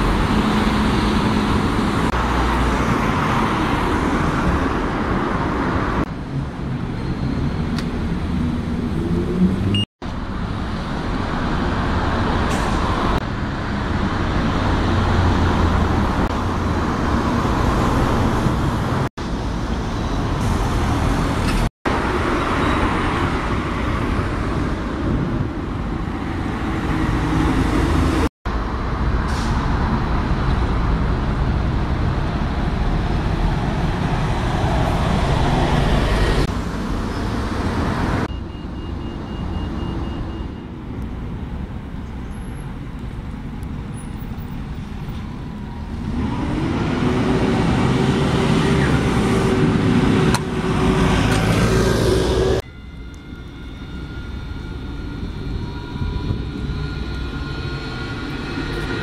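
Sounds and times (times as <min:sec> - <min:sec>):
bus engines running: 0:00.0 - 0:59.0
road traffic noise: 0:00.0 - 0:59.0.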